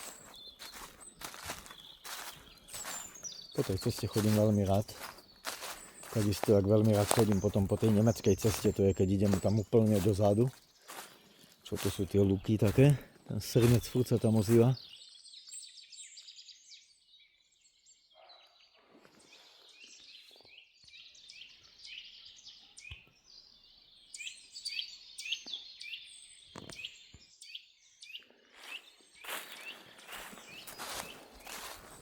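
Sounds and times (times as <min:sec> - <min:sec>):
birds chirping and singing: 0:00.0 - 0:32.0.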